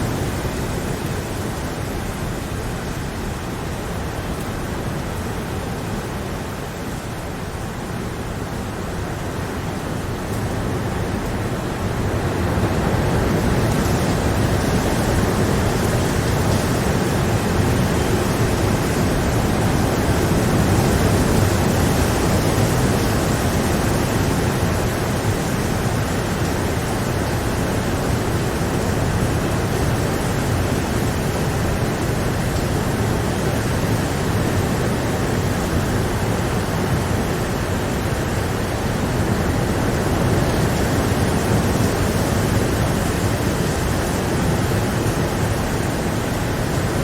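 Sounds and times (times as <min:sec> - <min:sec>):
heavy rain: 0:00.0 - 0:47.0.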